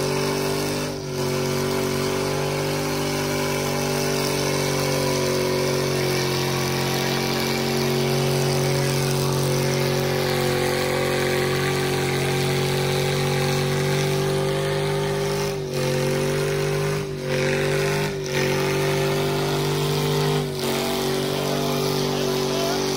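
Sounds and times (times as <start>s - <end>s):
truck engines at high revs: 0.0s - 22.9s.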